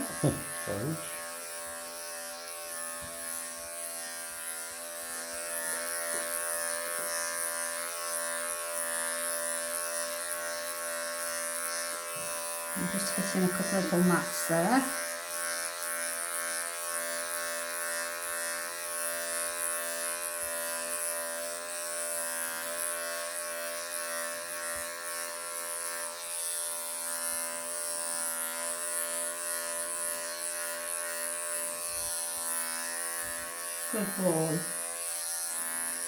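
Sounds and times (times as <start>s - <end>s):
electric clippers buzzing: 0.0s - 36.0s.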